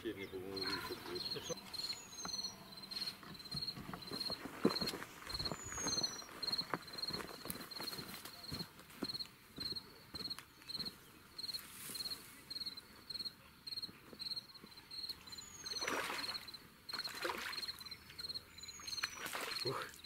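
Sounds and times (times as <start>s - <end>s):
cricket chirping: 0.5s - 20.0s.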